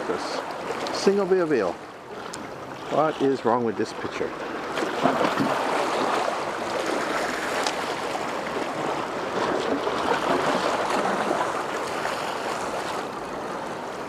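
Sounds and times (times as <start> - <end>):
sea water lapping: 0.0 - 14.0.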